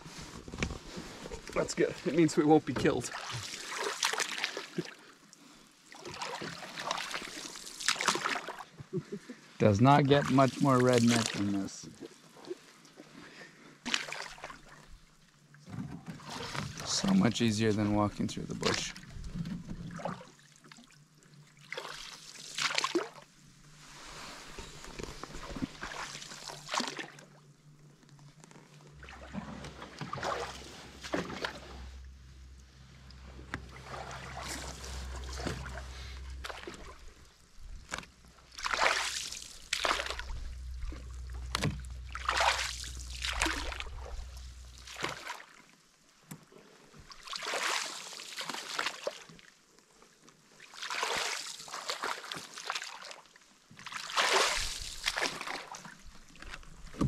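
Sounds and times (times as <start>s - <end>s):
water sloshing and splashing: 0.0s - 57.0s.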